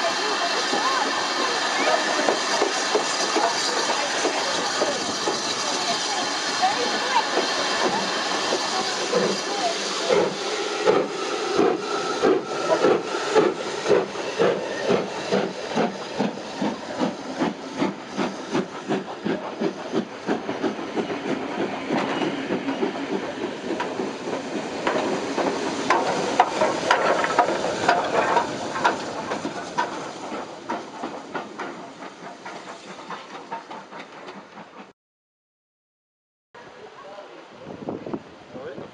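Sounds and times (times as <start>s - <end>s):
steam hissing: 0.0s - 34.9s
train wheels clattering: 0.0s - 34.9s.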